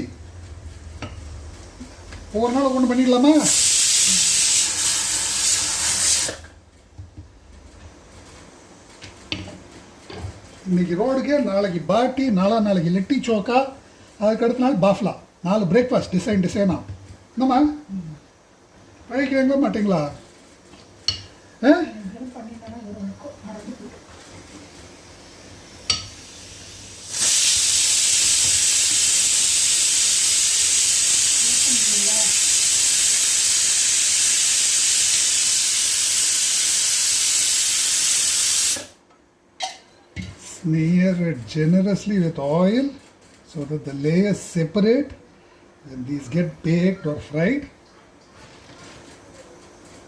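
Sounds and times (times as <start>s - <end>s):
loud steady hiss: 0.0s - 39.0s, 40.2s - 47.7s.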